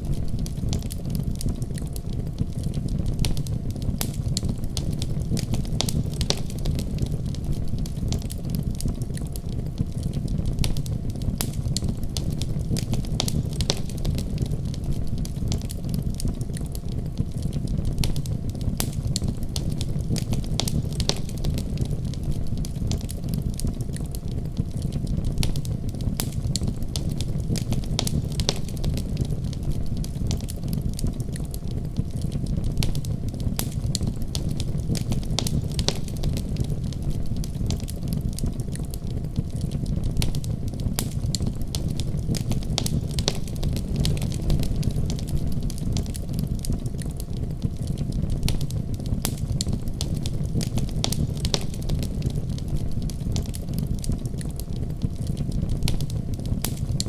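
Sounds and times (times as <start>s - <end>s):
fire crackling and popping: 0.0s - 57.0s
wood fire roaring: 0.0s - 57.0s.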